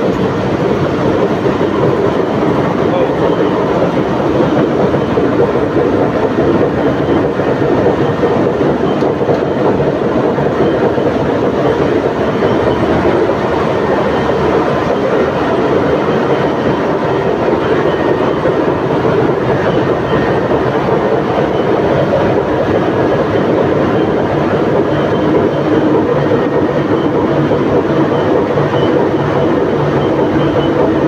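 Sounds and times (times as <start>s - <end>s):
engine room machinery drone: 0.0s - 31.0s.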